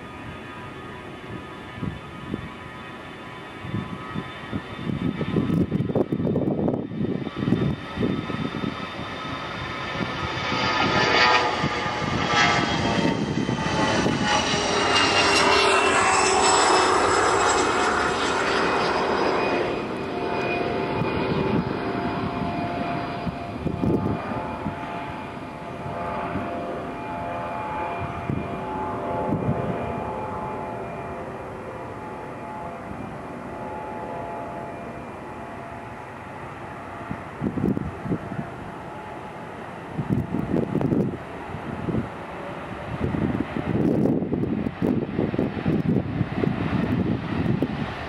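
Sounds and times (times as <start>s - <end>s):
jet engines whining: 0.0s - 48.0s.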